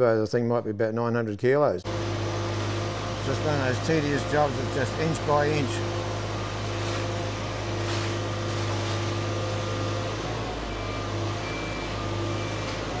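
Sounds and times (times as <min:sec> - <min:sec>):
diesel engine droning: 0:01.9 - 0:13.0
faint machine whining: 0:01.9 - 0:13.0.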